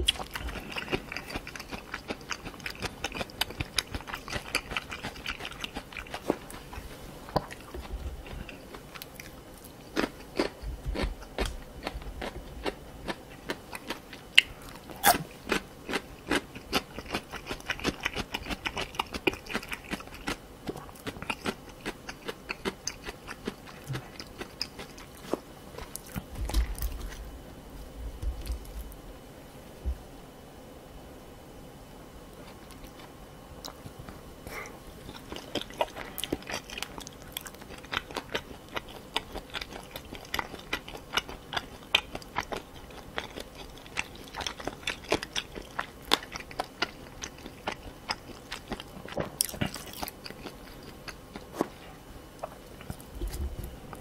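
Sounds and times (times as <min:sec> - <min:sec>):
chewing with wet crunches: 0:00.0 - 0:29.0, 0:32.4 - 0:54.0.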